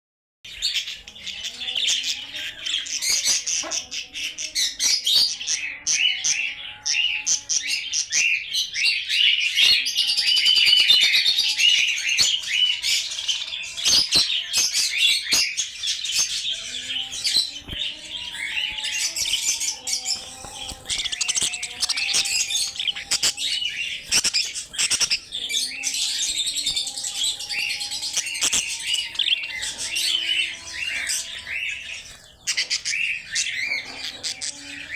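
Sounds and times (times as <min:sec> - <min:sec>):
budgerigars chattering and warbling: 0:00.5 - 0:34.9.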